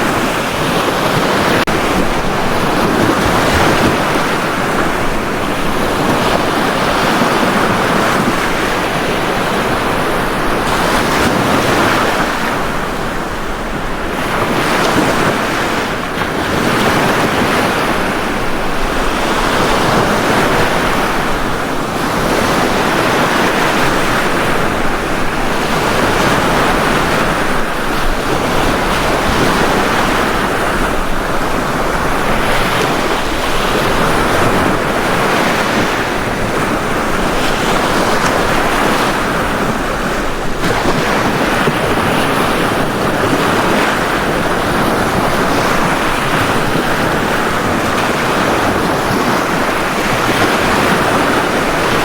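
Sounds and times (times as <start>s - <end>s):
waves breaking on a beach: 0.0s - 52.0s.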